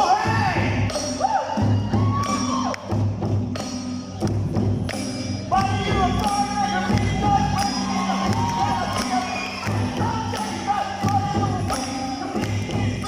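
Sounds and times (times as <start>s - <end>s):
drums keeping a steady beat: 0.0s - 13.0s.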